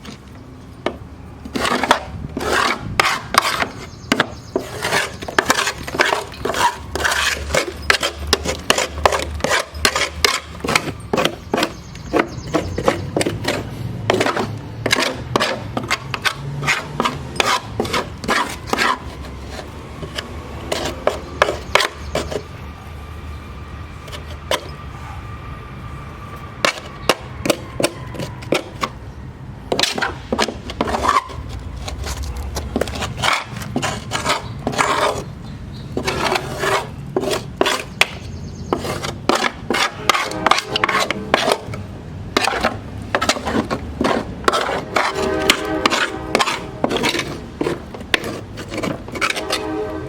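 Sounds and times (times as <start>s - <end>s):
metal scraping dried grass: 1.4s - 22.5s, 29.7s - 50.0s.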